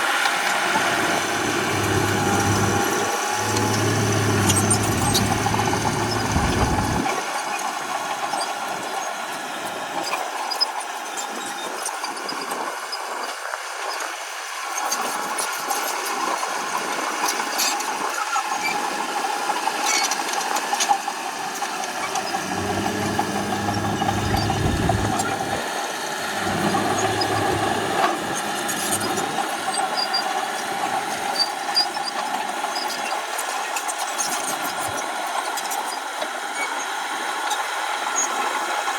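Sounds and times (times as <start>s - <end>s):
bulldozer diesel engine: 0.0s - 12.9s, 14.0s - 38.9s.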